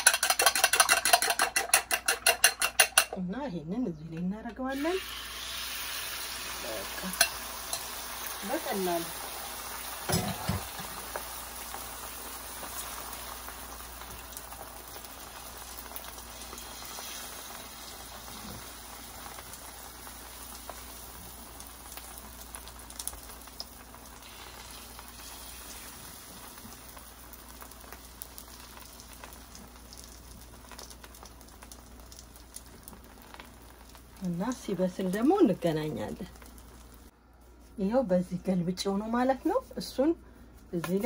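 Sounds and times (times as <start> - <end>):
eggs sizzling in a pan: 0.0 - 3.2, 4.5 - 37.9.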